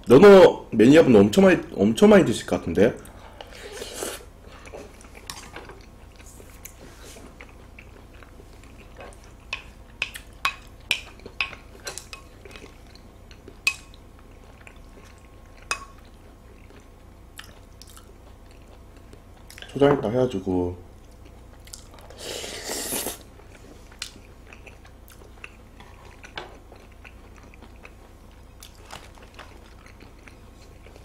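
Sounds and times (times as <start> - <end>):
faint chewing: 3.0 - 19.8, 21.0 - 31.0.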